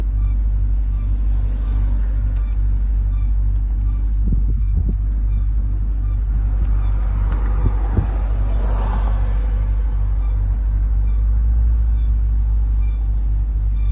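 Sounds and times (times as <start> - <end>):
car driving drone: 0.0 - 13.9
faint high squeaks: 0.0 - 13.9
low thumps: 0.0 - 13.9.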